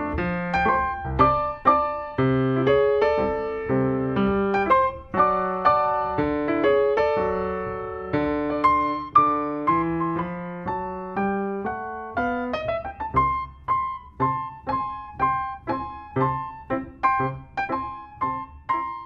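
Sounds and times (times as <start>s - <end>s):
solo piano notes: 0.0s - 19.0s.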